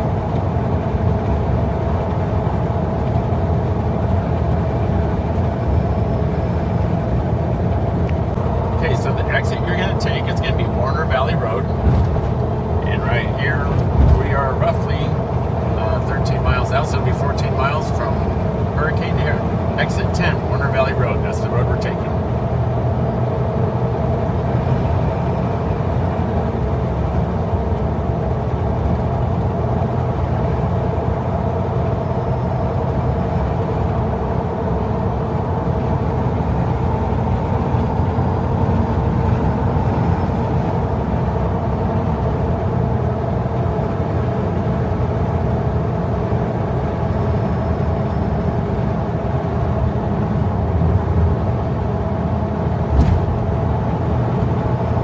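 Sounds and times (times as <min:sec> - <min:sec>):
car engine and tyre road noise: 0:00.0 - 0:55.0.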